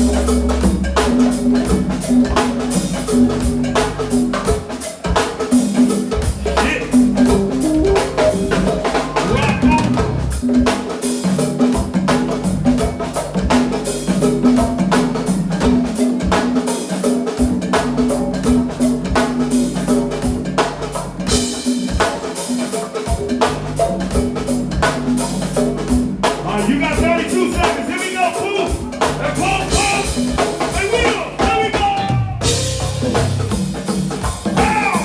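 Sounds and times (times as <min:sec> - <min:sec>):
drums and percussion: 0:00.0 - 0:35.0.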